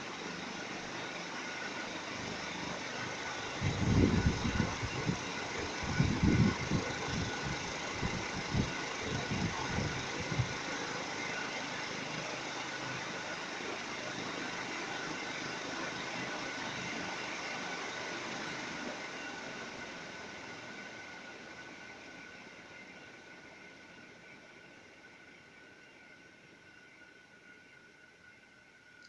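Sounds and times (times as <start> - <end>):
ceiling fan whirring: 0.0 - 29.0.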